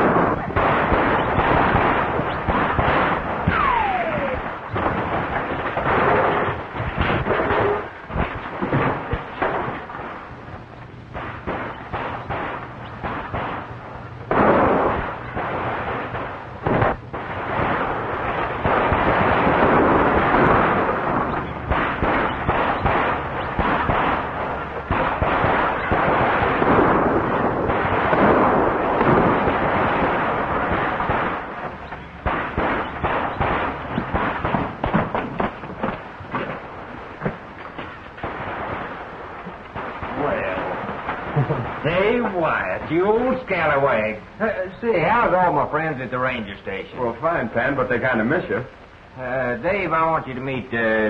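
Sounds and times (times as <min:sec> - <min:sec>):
film action bangs and crashes: 0:00.0 - 0:46.4.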